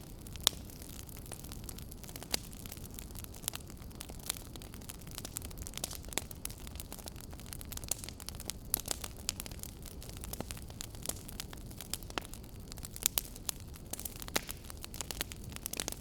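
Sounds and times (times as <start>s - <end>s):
low rumble of burning: 0.0s - 16.0s
wood fire crackling: 0.0s - 16.0s.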